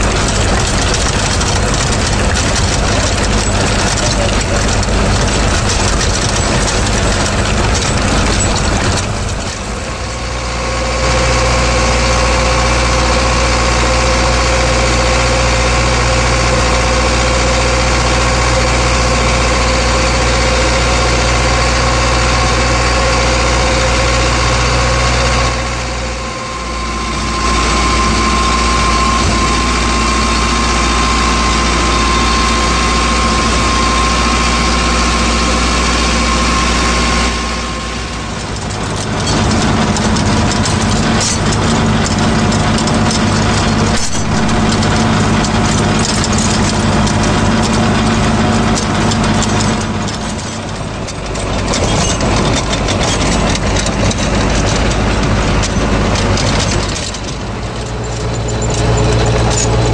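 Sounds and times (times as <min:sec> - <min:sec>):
rotary tiller churning soil: 0:00.0 - 0:59.9
tractor diesel engine running: 0:00.0 - 0:59.9.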